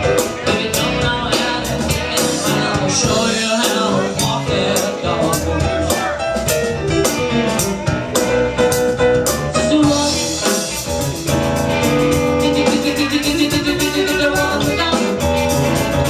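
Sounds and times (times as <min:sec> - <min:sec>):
drum kit steady beat: 0:00.0 - 0:16.0
guitar: 0:00.0 - 0:16.0
rhythm and blues band playing: 0:00.0 - 0:16.0.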